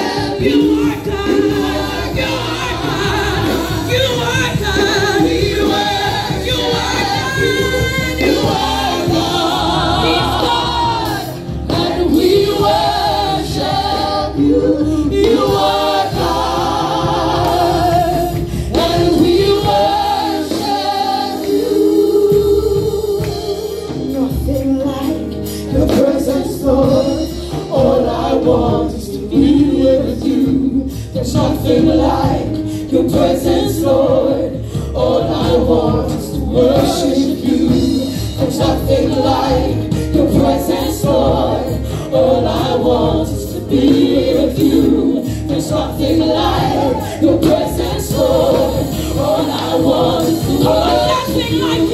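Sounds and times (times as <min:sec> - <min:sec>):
drums: 0:00.0 - 0:51.9
group singing gospel: 0:00.0 - 0:51.9
keyboard: 0:00.0 - 0:51.9.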